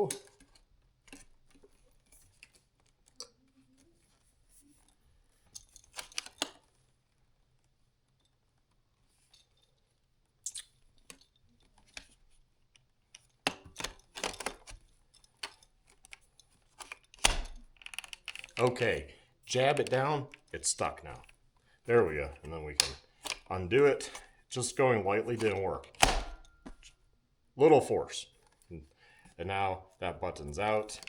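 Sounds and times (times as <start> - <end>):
plastic parts clicking and rattling: 0.0 - 24.5, 25.1 - 27.0, 30.6 - 31.0.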